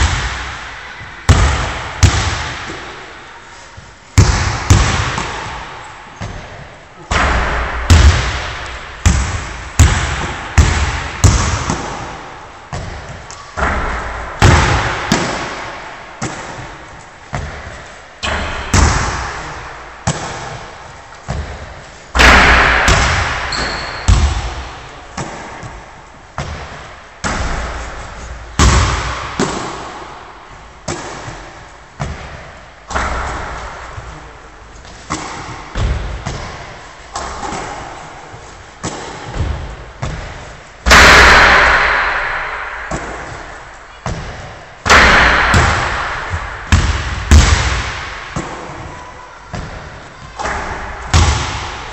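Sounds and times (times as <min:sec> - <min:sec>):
basketballs bouncing on wooden floor: 0:01.3 - 0:02.9, 0:04.2 - 0:27.8, 0:28.5 - 0:29.9, 0:30.6 - 0:34.2, 0:34.9 - 0:37.9, 0:38.8 - 0:41.8, 0:42.9 - 0:51.9.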